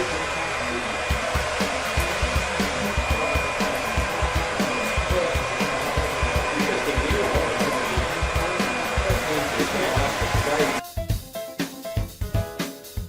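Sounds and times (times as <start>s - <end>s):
vacuum cleaner running: 0.0s - 10.8s
music with thumping beat: 1.1s - 13.0s.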